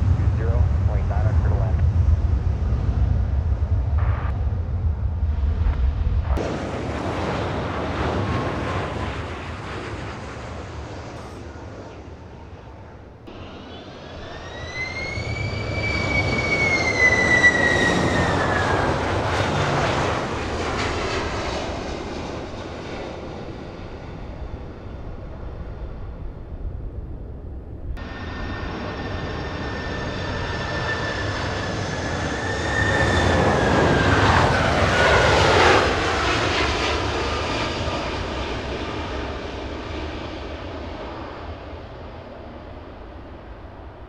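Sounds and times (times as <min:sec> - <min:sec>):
jet engine whine passing: 0:00.0 - 0:44.0
jet engines roaring: 0:00.0 - 0:44.0.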